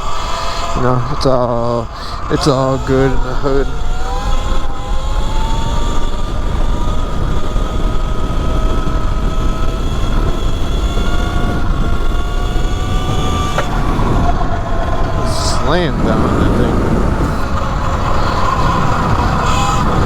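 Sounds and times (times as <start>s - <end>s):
electric motor whining: 0.0s - 20.0s
wind rumble on microphone: 0.0s - 20.0s.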